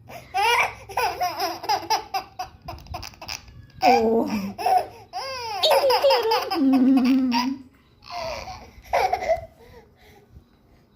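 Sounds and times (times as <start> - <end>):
baby laughing: 0.1 - 9.5.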